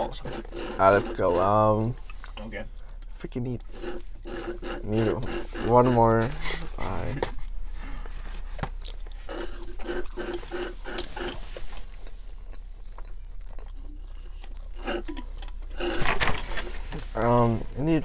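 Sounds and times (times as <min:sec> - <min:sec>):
person chewing food: 0:00.0 - 0:17.8.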